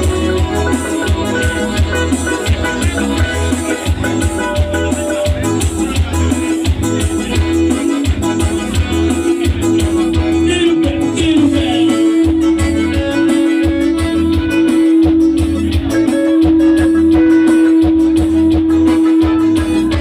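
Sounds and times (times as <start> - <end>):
plucked guitar music: 0.0 - 20.0
steady bass beat: 0.0 - 20.0.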